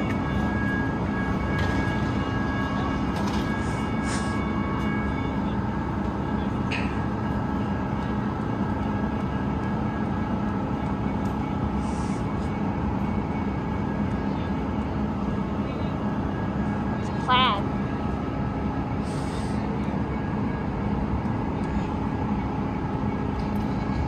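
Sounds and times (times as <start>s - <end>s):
train humming with held tones: 0.0s - 24.0s.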